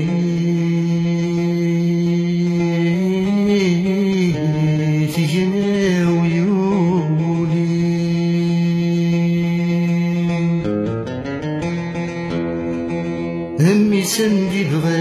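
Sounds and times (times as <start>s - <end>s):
person singing ornamented melody: 0.0s - 11.0s, 13.6s - 15.0s.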